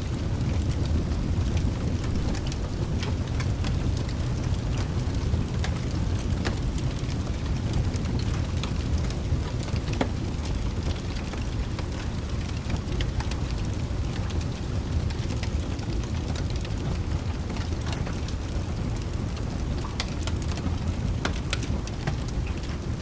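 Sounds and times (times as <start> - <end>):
log fire crackles: 0.0 - 23.0
steady rain: 0.0 - 23.0.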